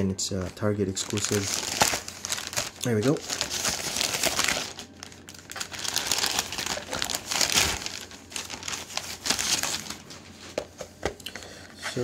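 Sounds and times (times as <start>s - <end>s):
plastic bag crinkling: 0.5s - 10.3s.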